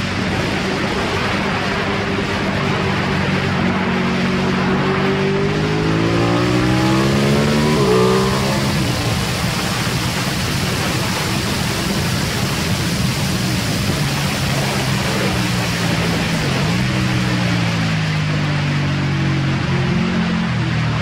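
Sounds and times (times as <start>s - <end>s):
motorcycle engine accelerating: 0.0s - 21.0s
wind rush on microphone: 0.0s - 21.0s.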